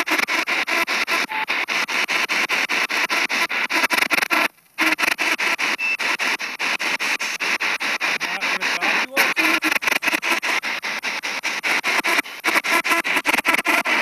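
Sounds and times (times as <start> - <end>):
choppy radio static: 0.0 - 14.0.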